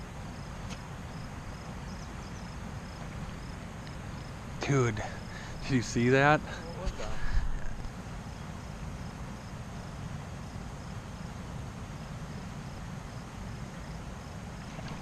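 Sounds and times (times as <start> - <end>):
cricket chirping: 0.0 - 15.0
low steady rumble: 0.0 - 15.0.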